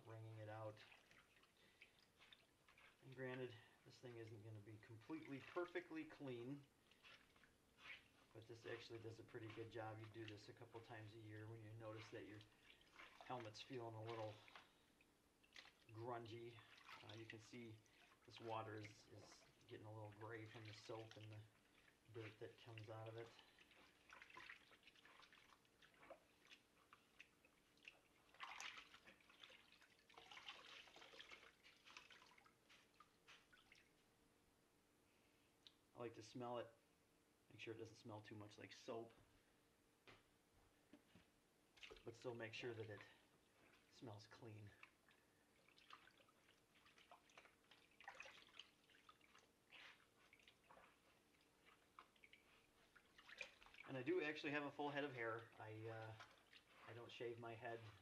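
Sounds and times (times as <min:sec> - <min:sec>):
soapy water sloshing and dripping: 0:00.0 - 0:34.1, 0:40.9 - 0:58.0
wet sponge-like squelches: 0:00.0 - 0:34.1, 0:41.0 - 0:58.0.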